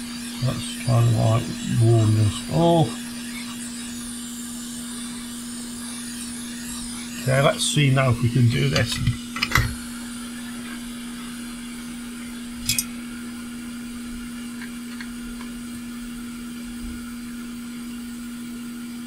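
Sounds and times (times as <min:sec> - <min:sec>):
blower fan humming: 0:00.0 - 0:19.0.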